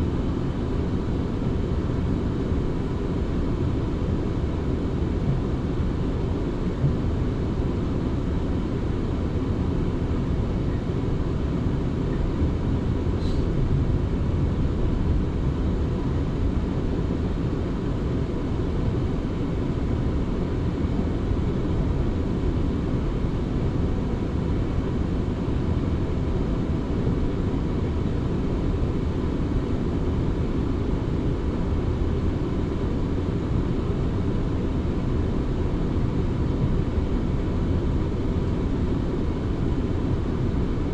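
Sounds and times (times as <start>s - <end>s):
faint steady whine: 0.0s - 40.9s.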